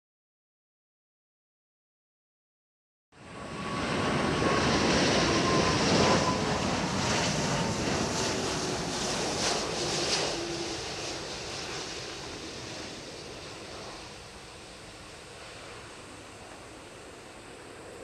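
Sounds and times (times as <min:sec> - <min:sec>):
jet engine whine: 0:03.1 - 0:18.0
jet airliner passing low: 0:03.2 - 0:18.0.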